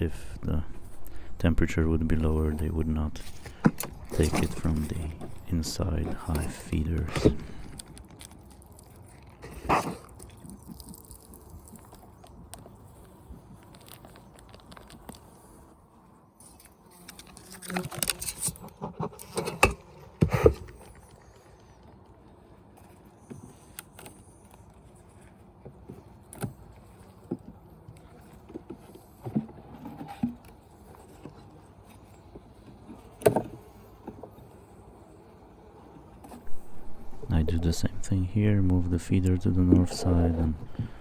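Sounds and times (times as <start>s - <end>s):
beehive equipment clicking and scraping: 0.0s - 41.0s.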